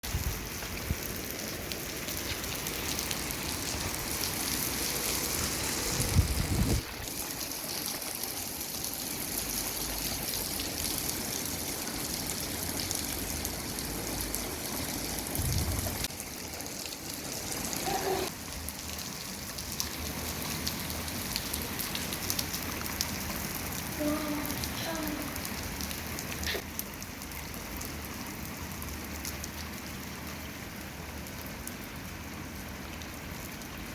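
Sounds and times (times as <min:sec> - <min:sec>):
rain pattering: 0:00.0 - 0:33.9.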